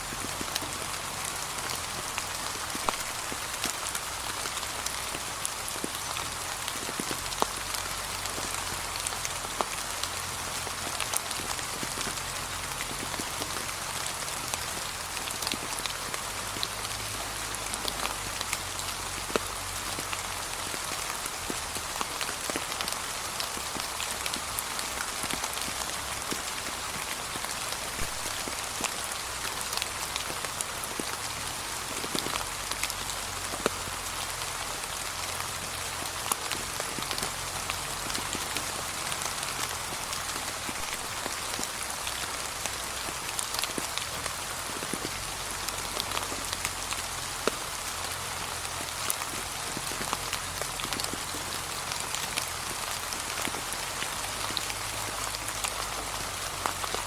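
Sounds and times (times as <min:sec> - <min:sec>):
gentle rain pattering: 0:00.0 - 0:57.0.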